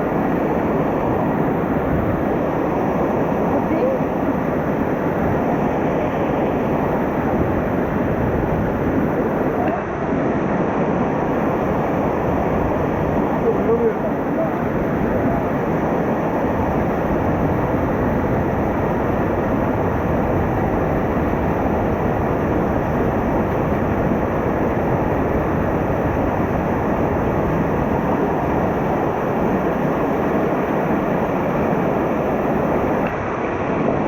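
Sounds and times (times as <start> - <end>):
stream rushing over rocks: 0.0 - 34.0.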